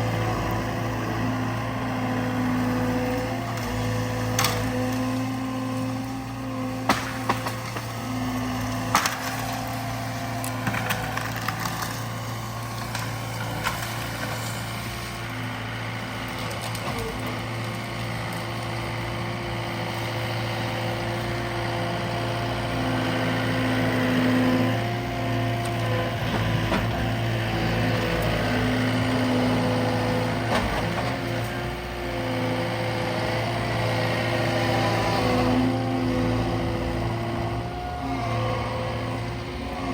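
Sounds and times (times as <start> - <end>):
loader diesel engine running: 0.0 - 39.9.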